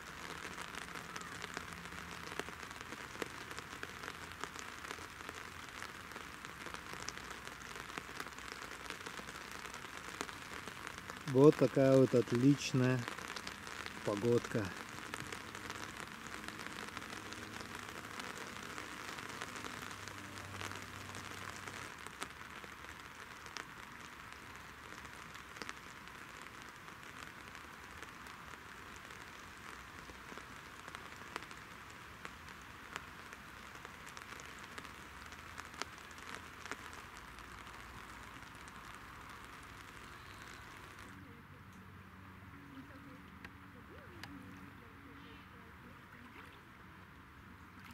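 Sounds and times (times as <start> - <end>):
rain falling on water: 0.0 - 47.9.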